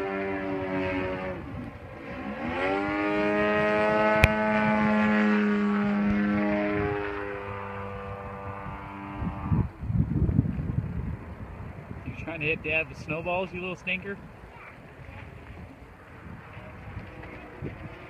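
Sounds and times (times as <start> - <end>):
model plane engine in flight: 0.0 - 12.7, 13.4 - 18.0
low rumbling bursts: 0.0 - 18.0.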